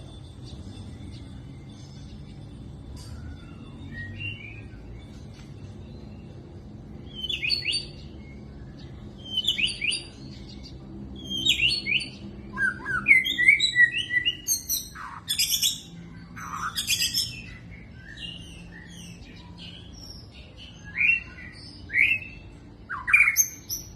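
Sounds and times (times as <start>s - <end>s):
bird singing whistles and chirps: 0.0s - 6.4s, 7.0s - 23.9s.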